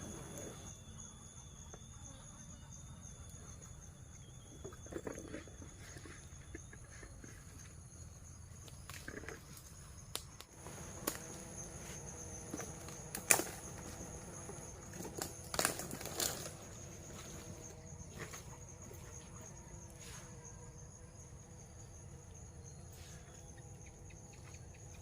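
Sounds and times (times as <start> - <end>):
shrill insect chorus: 0.0 - 25.0.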